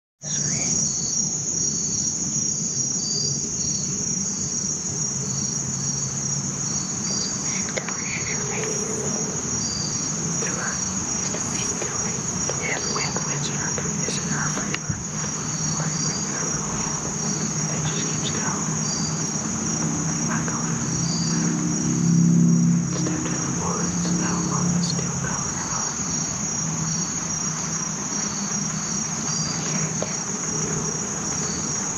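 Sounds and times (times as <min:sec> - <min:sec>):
high-pitched insect chorus: 0:00.2 - 0:31.9
insect calling in pulses: 0:00.2 - 0:31.9.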